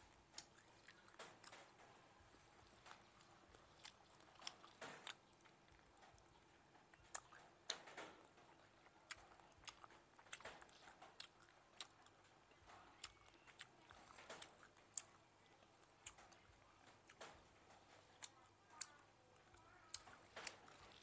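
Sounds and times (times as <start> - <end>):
chewing crunchy food: 0.0 - 21.0.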